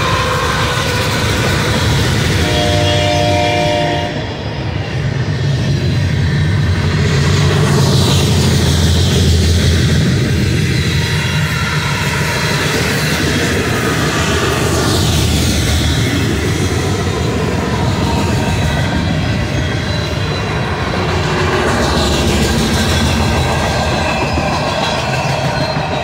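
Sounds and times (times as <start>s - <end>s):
high wheel squeal: 0.0s - 4.8s, 7.1s - 26.0s
train wheels rumbling on rail: 0.0s - 26.0s.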